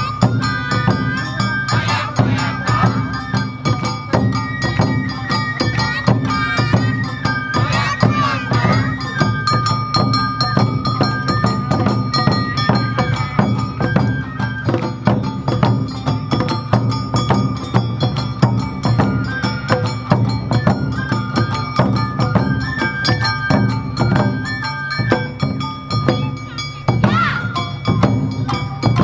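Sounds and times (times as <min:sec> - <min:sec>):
bamboo flute melody: 0:00.0 - 0:29.0
clanging percussion: 0:00.0 - 0:29.0
drums beating: 0:00.0 - 0:29.0.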